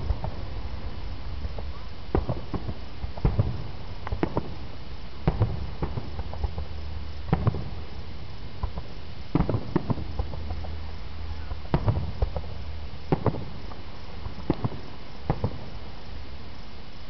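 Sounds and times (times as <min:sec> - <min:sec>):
fireworks bursting: 0:00.0 - 0:17.0
low steady hum: 0:00.0 - 0:17.0.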